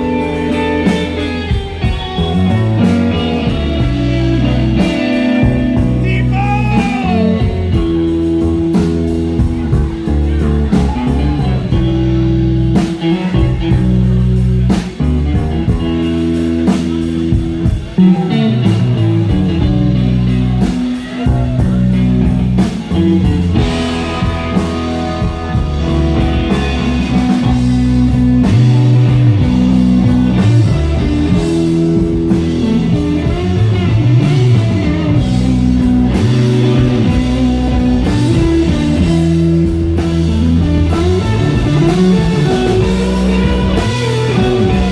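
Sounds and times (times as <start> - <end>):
bass notes: 0.0 - 44.9
drum kit: 0.0 - 44.9
electric guitar lead: 0.0 - 44.9.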